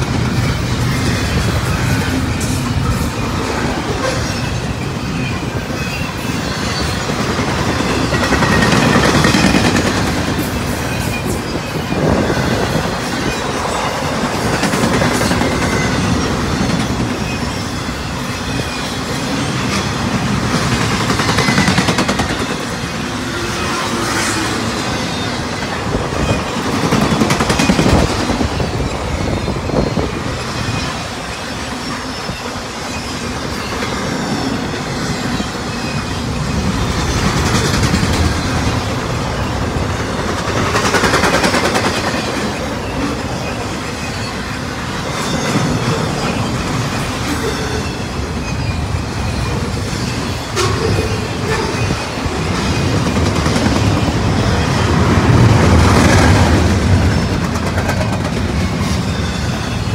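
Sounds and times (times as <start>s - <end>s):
steel wheels rushing on rail: 0.0s - 59.9s.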